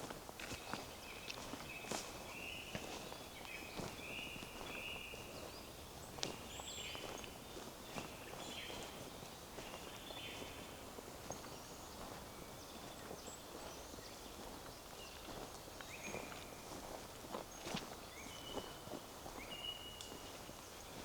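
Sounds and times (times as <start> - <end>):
footsteps on forest path: 0.0 - 21.0
birds singing: 0.4 - 21.0.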